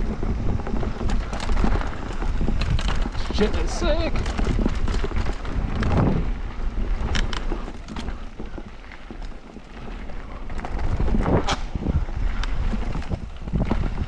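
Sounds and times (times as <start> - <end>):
bike rattling on rough trail: 0.0 - 14.0
wind rumble on microphone: 0.0 - 14.0.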